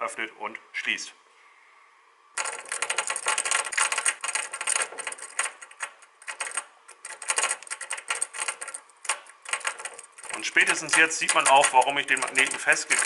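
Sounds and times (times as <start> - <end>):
metallic clicking and rattling: 2.4 - 13.0.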